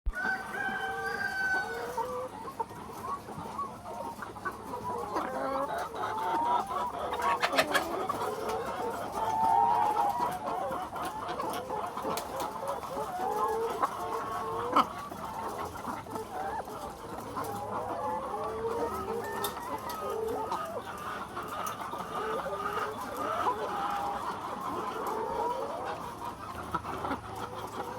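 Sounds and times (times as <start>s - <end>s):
hens clucking: 0.1s - 27.9s.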